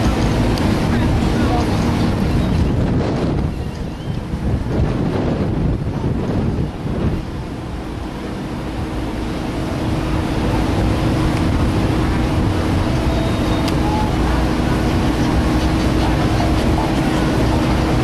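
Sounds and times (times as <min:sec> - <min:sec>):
constant hum: 0:00.0 - 0:18.0
ship engines rumbling: 0:00.0 - 0:18.0.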